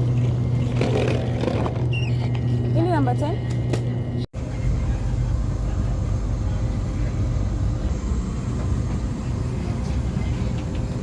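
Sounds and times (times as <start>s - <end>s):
electric train humming: 0.0s - 1.4s, 2.3s - 11.0s.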